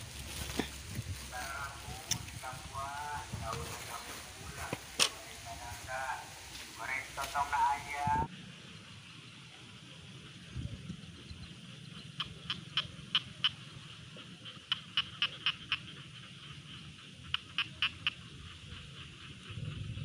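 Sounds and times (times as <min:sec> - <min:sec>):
frog clicking calls: 0:00.0 - 0:08.1, 0:11.6 - 0:20.0.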